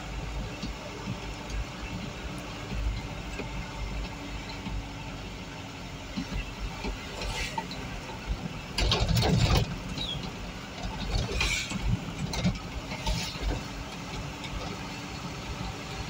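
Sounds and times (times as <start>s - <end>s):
vehicle engine running: 0.0s - 16.0s
cab rattling: 0.4s - 16.0s.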